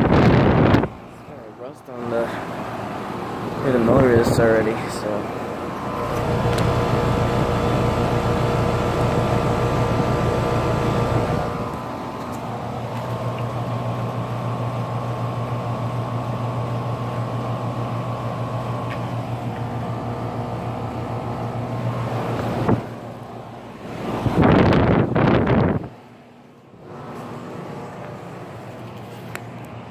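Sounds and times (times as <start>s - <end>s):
air conditioner compressor hum: 0.0s - 29.9s
fan whir: 0.0s - 29.9s.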